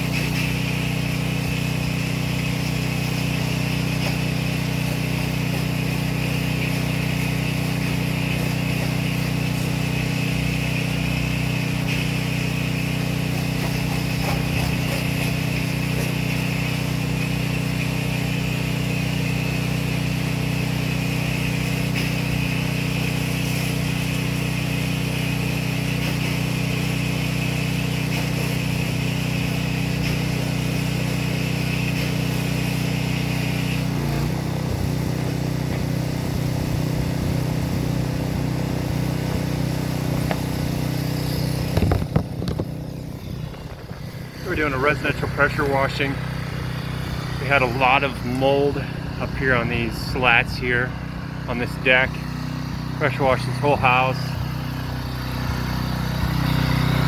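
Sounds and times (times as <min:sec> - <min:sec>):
pressure washer engine and pump: 0:00.0 - 0:57.0.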